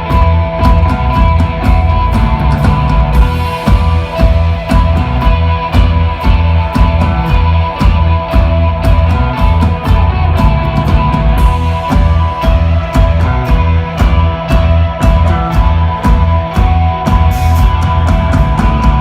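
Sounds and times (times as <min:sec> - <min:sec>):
bass guitar: 0:00.0 - 0:19.0
drum kit steady beat: 0:00.0 - 0:19.0
electric guitar sustained notes: 0:00.0 - 0:19.0.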